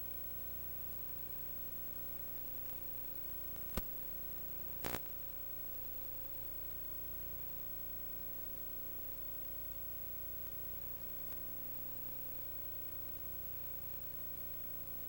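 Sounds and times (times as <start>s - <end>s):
projector fan and motor hum: 0.0s - 15.0s.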